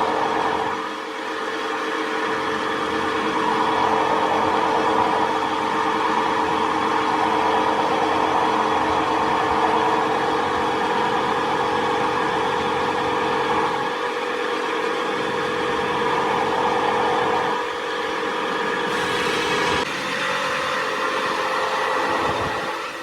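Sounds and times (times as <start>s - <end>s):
large engine running: 0.0s - 23.0s.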